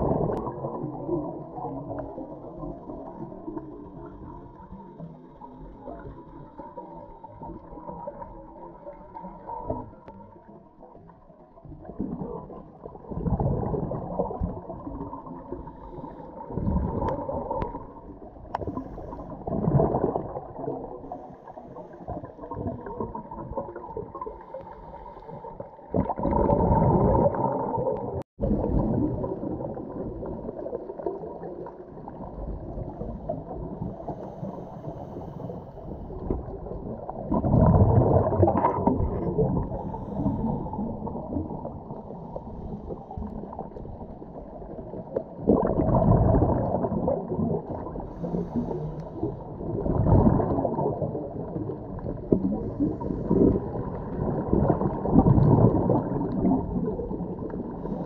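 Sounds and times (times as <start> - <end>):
underwater exhaled bubbles: 0.0 - 58.0.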